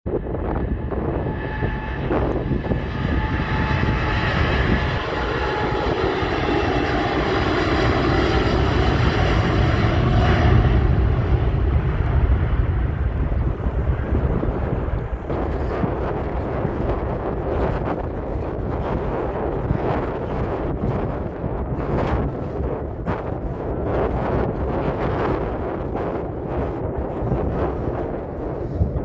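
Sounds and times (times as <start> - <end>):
jet engine roar with fan whine: 0.0 - 29.0
wind buffeting microphone: 0.0 - 29.0.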